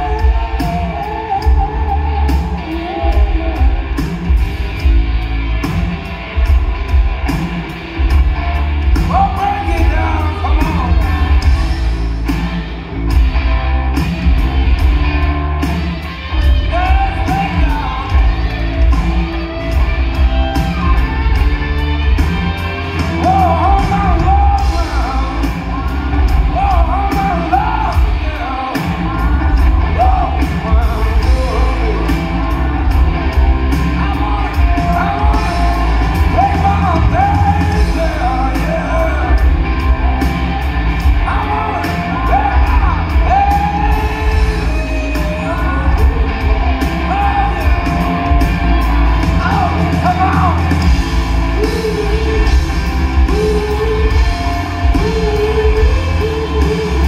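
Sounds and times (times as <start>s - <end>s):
person singing: 0.0s - 4.4s, 8.9s - 12.2s, 16.1s - 57.0s
drums: 0.0s - 57.0s
electric guitars: 0.0s - 57.0s
heavy bass: 0.0s - 57.0s.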